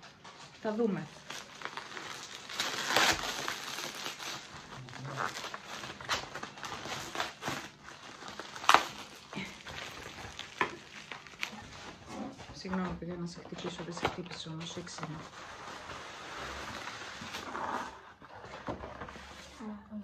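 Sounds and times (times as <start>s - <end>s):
plastic packaging rustling: 0.2s - 19.4s.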